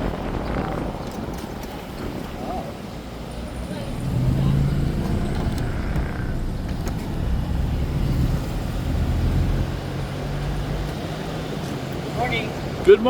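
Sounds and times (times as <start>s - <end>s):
vehicle road noise rumble: 0.0s - 13.0s.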